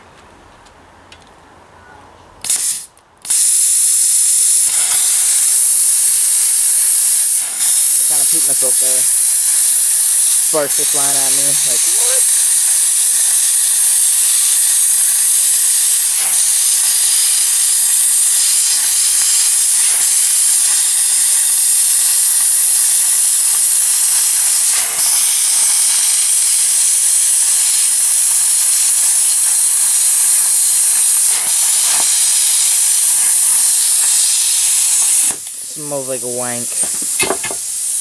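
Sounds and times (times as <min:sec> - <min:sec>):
plasma cutter hissing: 0:02.4 - 0:38.0.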